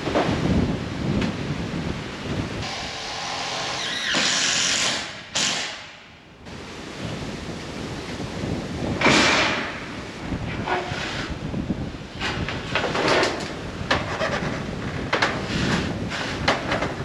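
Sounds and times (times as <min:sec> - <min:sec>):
wind buffeting microphone: 0:00.0 - 0:03.1, 0:06.4 - 0:17.0.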